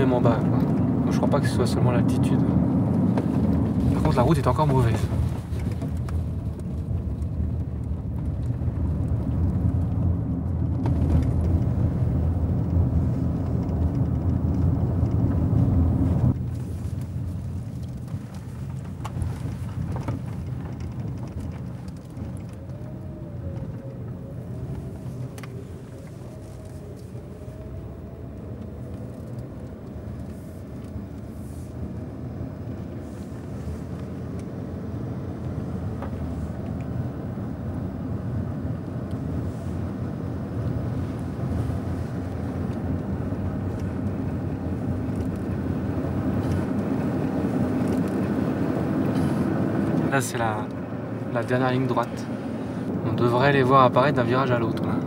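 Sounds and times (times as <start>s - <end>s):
car running hum: 0.0s - 55.0s
tyres rumbling on rough road: 0.0s - 55.0s.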